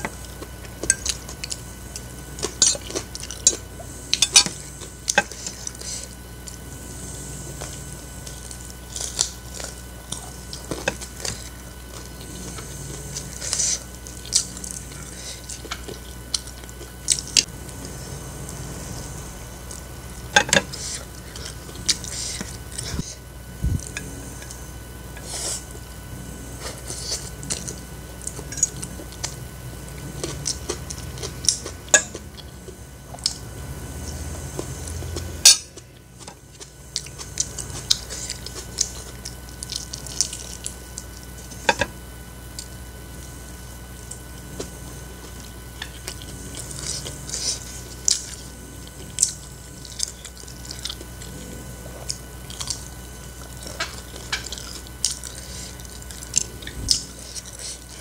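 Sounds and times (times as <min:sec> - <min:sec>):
chewing: 0:00.0 - 0:25.8, 0:26.4 - 0:41.9, 0:42.5 - 0:58.0.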